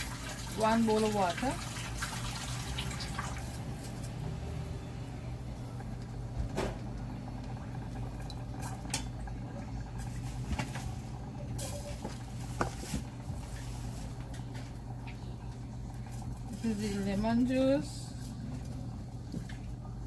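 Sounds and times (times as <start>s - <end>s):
steady low hum: 3.1s - 20.0s.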